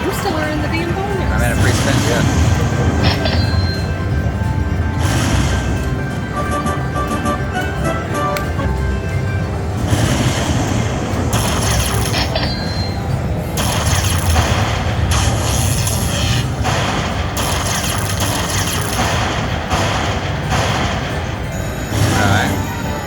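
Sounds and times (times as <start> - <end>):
looping slot machine game music: 0.0 - 23.0
slot machine reel effects: 0.0 - 23.0.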